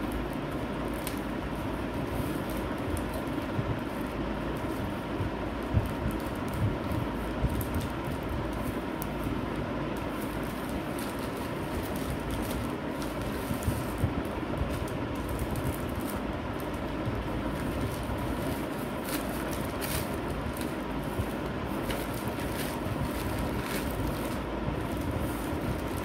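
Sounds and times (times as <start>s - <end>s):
low rumble and hiss: 0.0s - 26.0s
plastic packaging crinkling: 0.0s - 26.0s.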